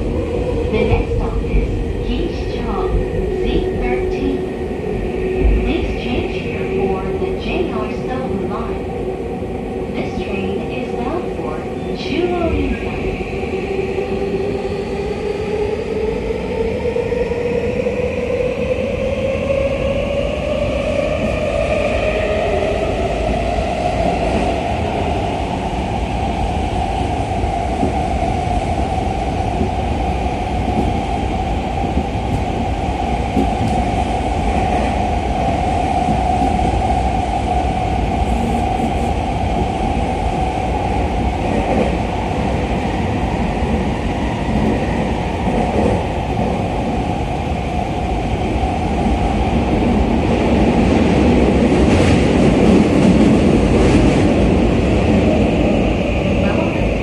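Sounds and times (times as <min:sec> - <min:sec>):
train wheels rumbling on rail: 0:00.0 - 0:08.9, 0:15.8 - 0:57.0.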